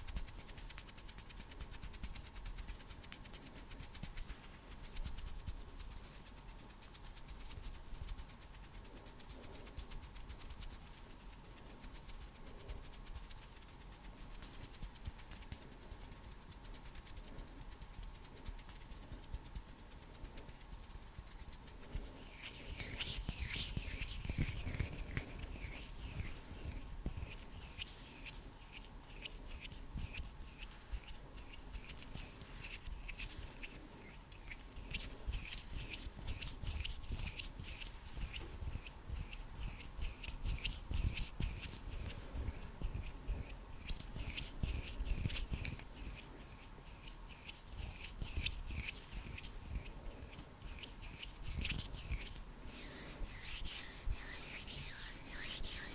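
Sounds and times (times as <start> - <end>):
hands rubbing near microphone: 0.0 - 55.9.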